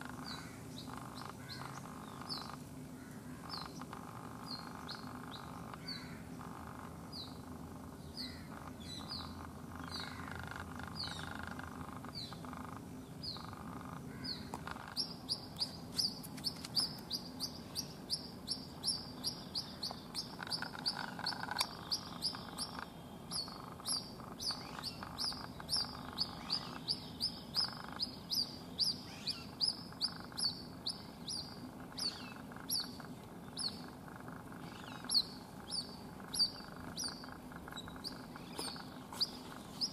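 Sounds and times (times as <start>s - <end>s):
bird chick peeping: 0.0s - 39.9s.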